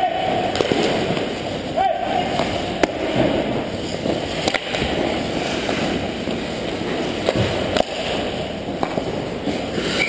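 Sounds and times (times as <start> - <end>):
hockey sticks and puck clacking: 0.0 - 10.0
skates scraping on ice: 0.1 - 10.0.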